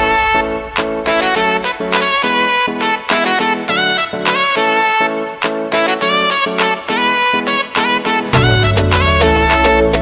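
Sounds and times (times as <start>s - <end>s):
instrumental music with brass lead: 0.0s - 10.0s.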